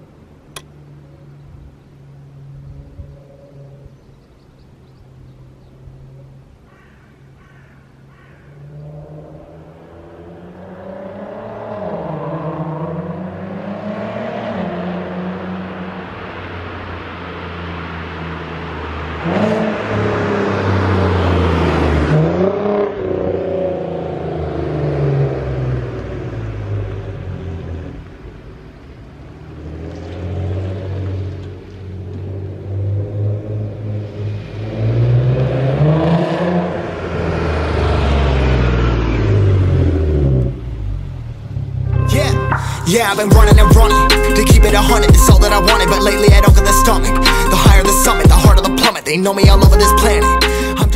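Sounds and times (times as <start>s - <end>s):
car engine revving: 8.7s - 28.0s, 29.4s - 50.9s.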